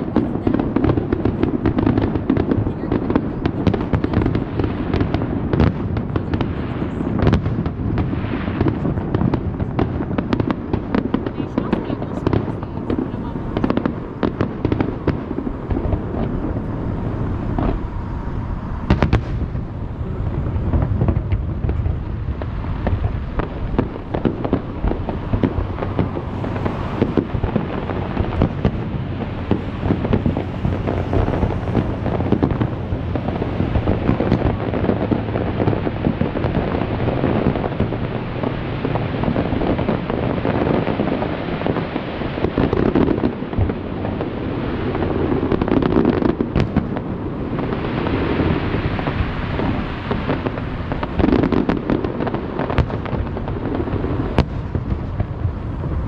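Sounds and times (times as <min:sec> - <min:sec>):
fireworks booms with crackle: 0:00.0 - 0:56.0
sharp firework bangs: 0:00.0 - 0:56.0.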